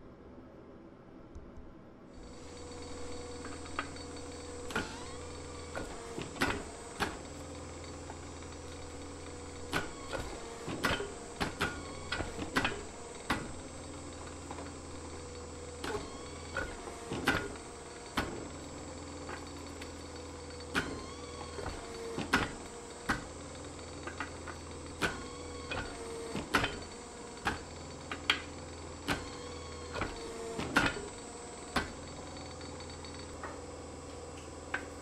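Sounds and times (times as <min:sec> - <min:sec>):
hydraulic press humming: 0:02.2 - 0:35.0.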